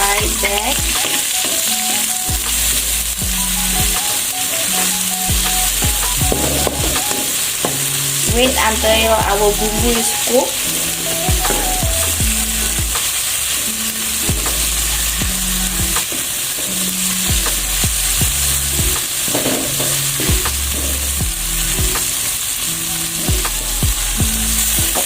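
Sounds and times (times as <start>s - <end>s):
paste sizzling in hot oil: 0.0s - 25.0s.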